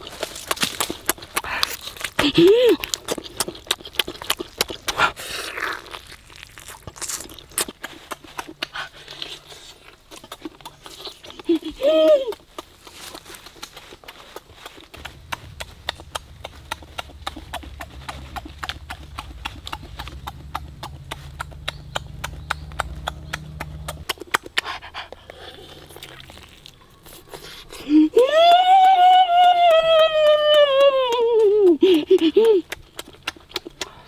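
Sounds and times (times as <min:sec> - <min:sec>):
person chewing and lip-smacking: 0:00.0 - 0:34.0.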